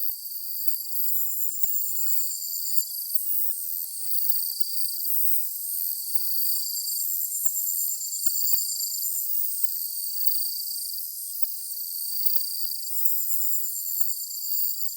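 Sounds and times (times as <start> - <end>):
insects trilling and chirping: 0.0 - 14.9.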